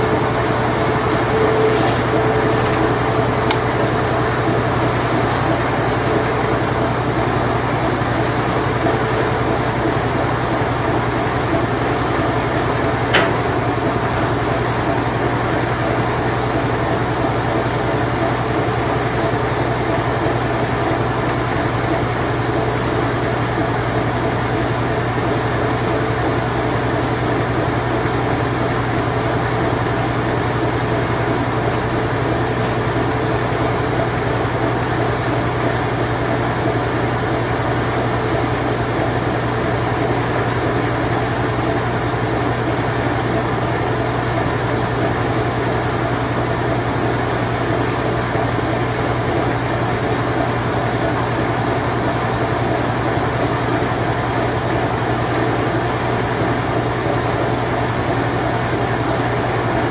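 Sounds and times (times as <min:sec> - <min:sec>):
washing machine spin cycle hum: 0:00.0 - 0:59.9.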